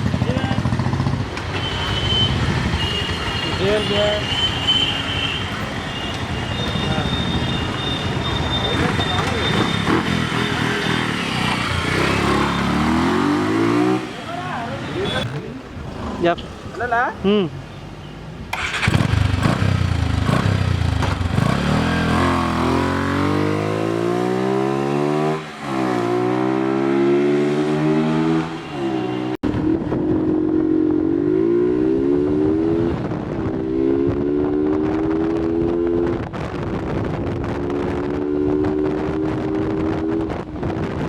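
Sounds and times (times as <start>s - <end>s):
motorcycle engine revving: 0.0s - 4.1s, 6.7s - 16.6s, 18.5s - 41.0s.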